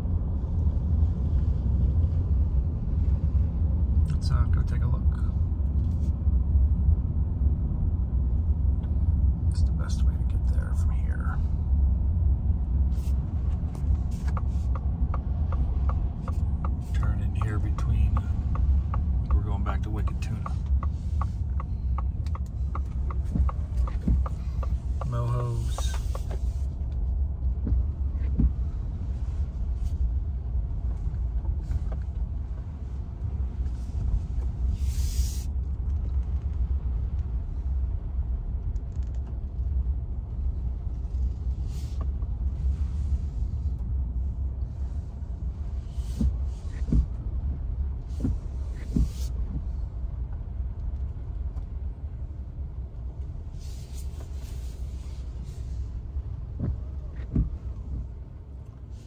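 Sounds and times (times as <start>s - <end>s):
road and wind rumble in car: 0.0s - 59.0s
tyres swishing on wet road: 0.0s - 59.0s.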